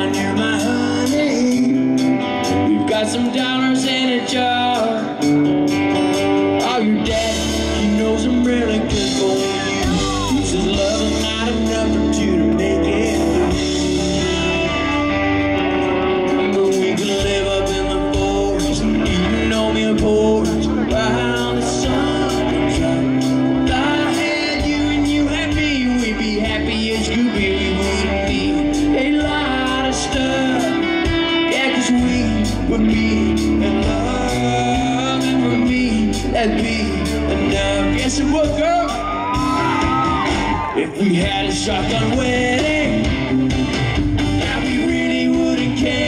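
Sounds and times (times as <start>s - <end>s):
man singing into a microphone: 0.0s - 43.3s, 44.3s - 46.0s
live country band playing: 0.0s - 46.0s.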